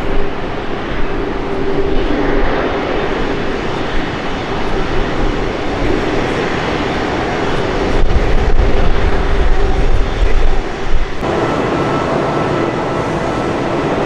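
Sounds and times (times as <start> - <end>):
jet engines roaring at takeoff: 0.0 - 14.0
jet roar with faint whine: 0.0 - 14.0.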